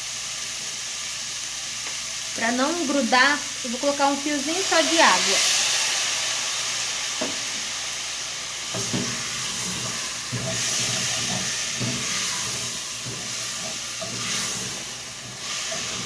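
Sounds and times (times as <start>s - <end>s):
food sizzling in a hot pan: 0.0s - 16.0s.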